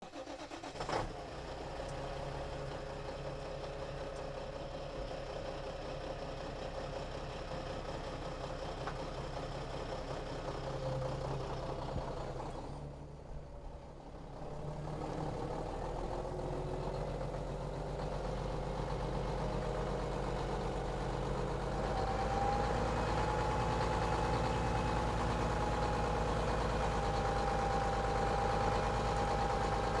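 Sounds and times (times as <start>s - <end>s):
truck engine idling: 0.1s - 30.0s.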